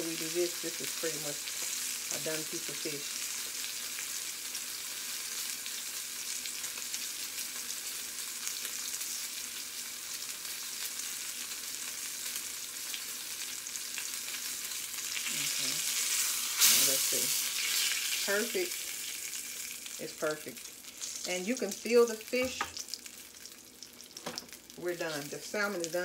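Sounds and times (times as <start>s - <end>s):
fish sizzling in a skillet: 0.0s - 26.0s.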